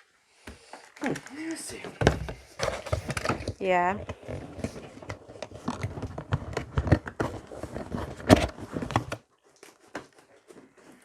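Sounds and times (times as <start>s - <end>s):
packaging rustling: 0.8s - 11.0s.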